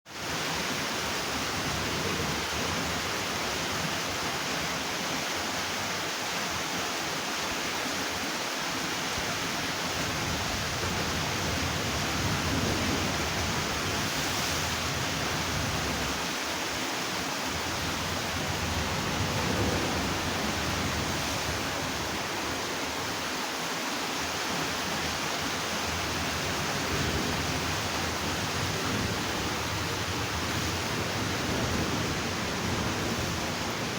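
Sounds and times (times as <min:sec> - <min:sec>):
floodwater rushing under bridge: 0:00.1 - 0:33.9.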